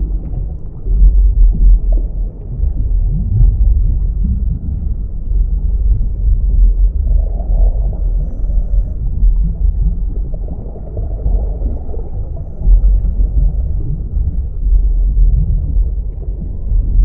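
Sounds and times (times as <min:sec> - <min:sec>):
deep underwater rumble: 0:00.0 - 0:17.0.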